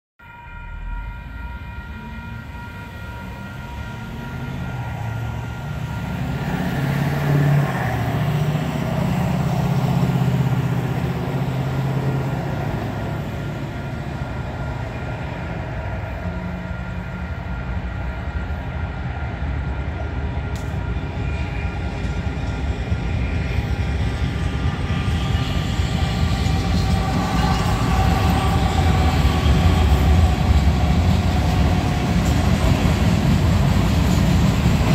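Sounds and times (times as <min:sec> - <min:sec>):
railroad crossing bell ringing: 0:00.2 - 0:23.3, 0:24.4 - 0:34.9
diesel locomotive rumbling: 0:00.2 - 0:34.9.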